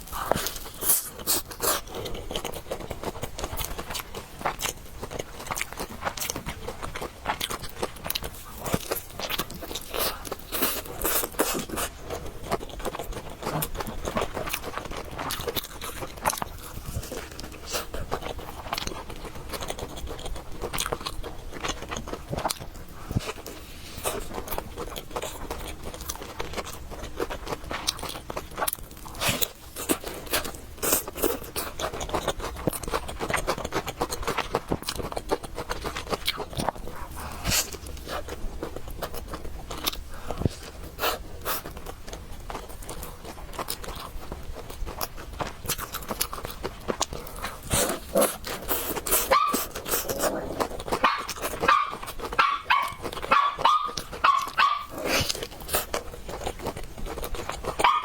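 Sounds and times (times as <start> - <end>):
person chewing noodles: 0.0 - 58.0.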